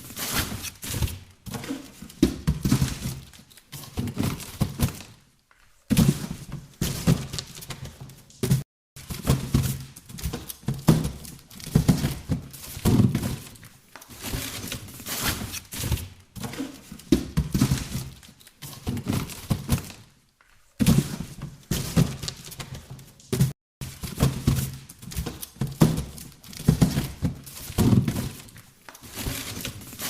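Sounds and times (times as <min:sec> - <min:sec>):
scraping and rustling of boxes: 0:00.0 - 0:30.0
cardboard boxes thudding: 0:00.2 - 0:05.1, 0:05.9 - 0:13.6, 0:14.2 - 0:20.0, 0:20.8 - 0:30.0.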